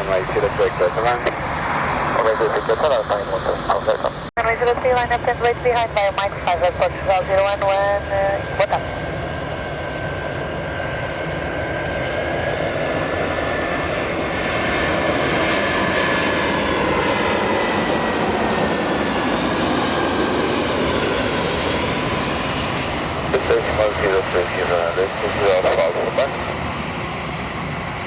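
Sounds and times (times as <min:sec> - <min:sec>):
jet engines passing by: 0:00.0 - 0:28.0.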